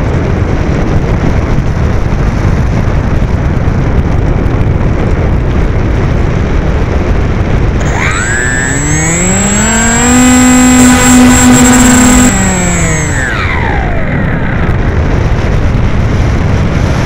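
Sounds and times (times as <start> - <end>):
air rushing over microphone: 0.0 - 17.0
electric motor and propeller whine: 0.0 - 17.0.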